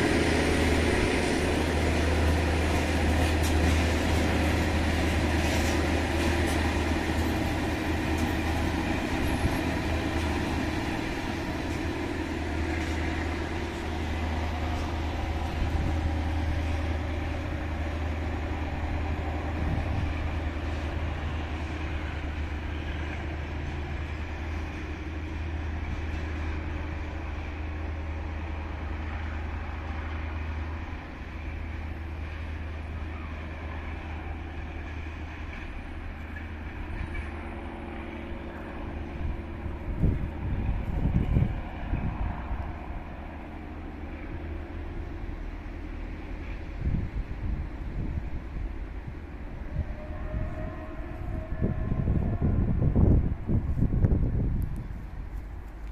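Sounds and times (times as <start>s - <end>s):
freight wagons rumbling on rails: 0.0s - 55.9s.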